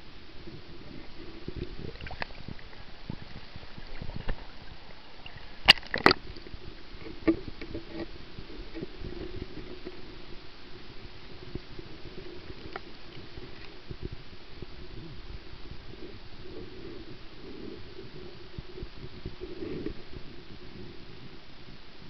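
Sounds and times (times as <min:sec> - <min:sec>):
muffled underwater water noise: 0:00.0 - 0:22.0
steady low hum: 0:00.0 - 0:22.0.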